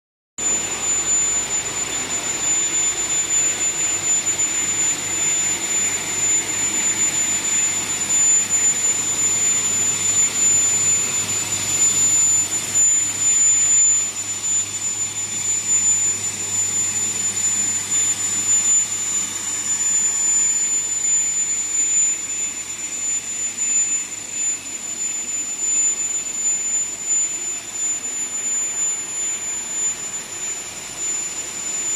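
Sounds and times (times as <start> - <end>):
high-pitched whine: 0.4 - 31.9
machine whir and hiss: 0.4 - 31.9.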